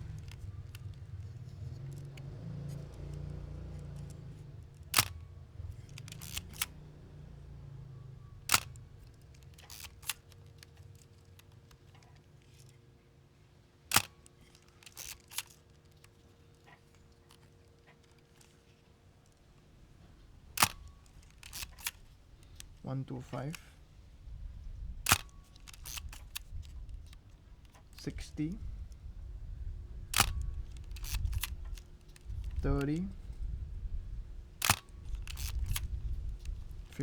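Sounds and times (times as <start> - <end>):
camera shutter clicks: 0.0 - 7.0, 8.4 - 12.7, 13.9 - 19.4, 20.0 - 23.8, 24.9 - 29.1, 30.0 - 33.4, 34.1 - 37.0
quiet clicks and handling noise: 0.0 - 37.0.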